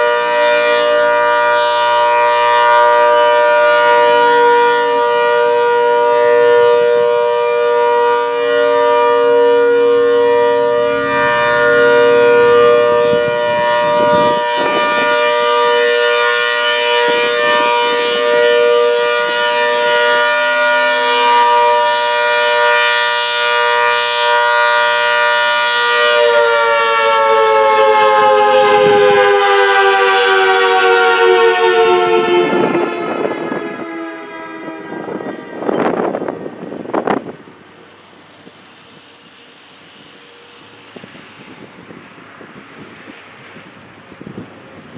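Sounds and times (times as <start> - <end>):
warning siren chord: 0.0 - 37.9.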